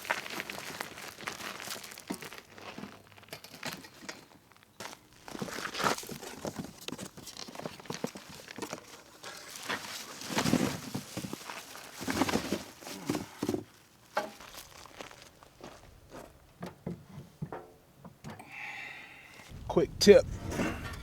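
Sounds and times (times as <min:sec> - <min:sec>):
rustling and crinkling: 0:00.0 - 0:17.5.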